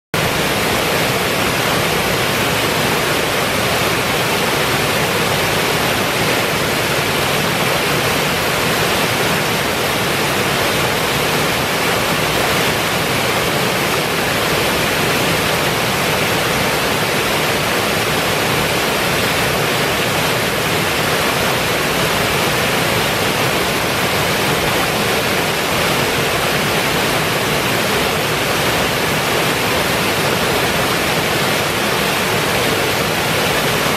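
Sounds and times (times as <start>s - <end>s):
water rushing over weir: 0.2s - 33.9s.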